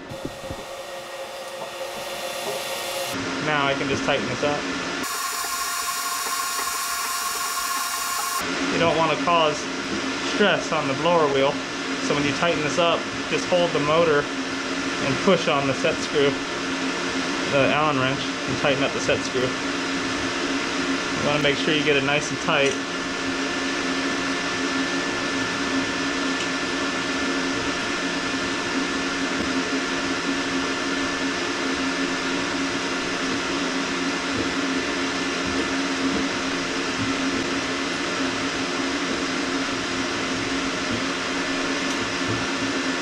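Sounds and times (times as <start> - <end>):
machine hum with whir: 0.0 - 43.0.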